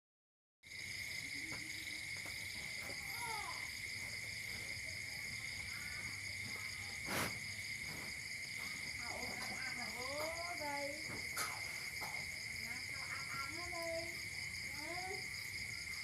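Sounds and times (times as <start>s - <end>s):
crickets trilling: 0.7s - 16.0s.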